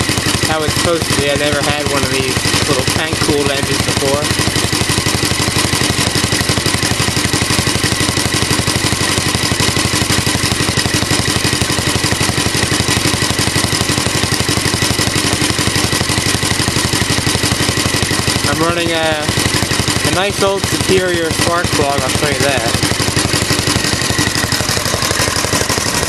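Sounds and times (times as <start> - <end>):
engine exhaust beat: 0.0 - 26.0.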